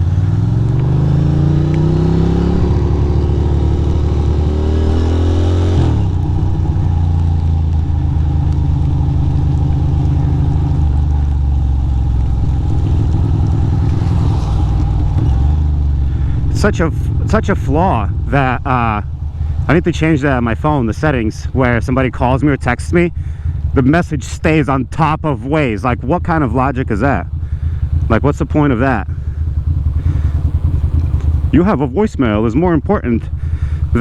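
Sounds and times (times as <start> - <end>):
motorcycle engine pulling away: 0.0 - 23.9, 27.3 - 31.8.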